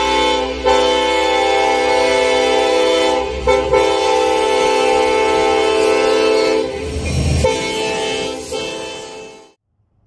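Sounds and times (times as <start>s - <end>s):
train air horn blast: 0.0s - 9.6s.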